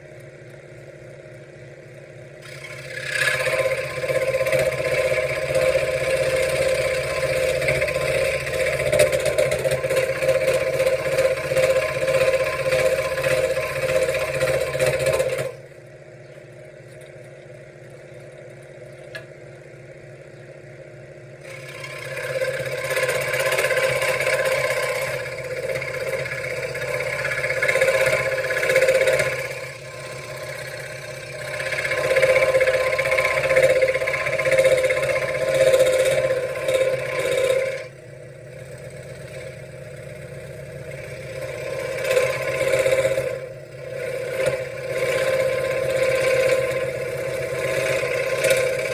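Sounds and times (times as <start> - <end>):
motor hum: 0.0 - 48.9
scroll saw cutting wood: 2.4 - 15.8, 21.4 - 48.9.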